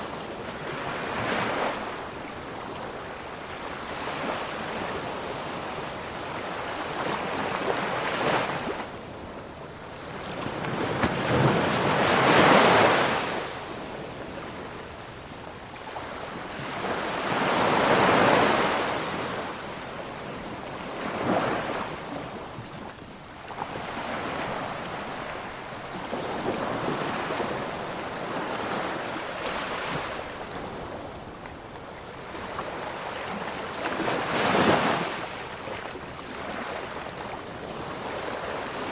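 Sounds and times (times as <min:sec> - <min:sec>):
ocean waves breaking: 0:03.7 - 0:38.9.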